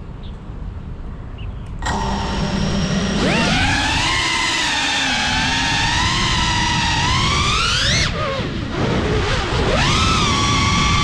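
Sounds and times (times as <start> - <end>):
quadcopter motors whining: 1.8 - 11.0.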